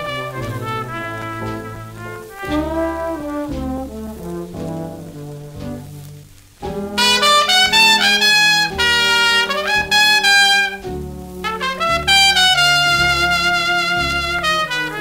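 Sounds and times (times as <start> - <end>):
lower brass: 0.0 - 15.0
trumpet melody: 0.0 - 15.0.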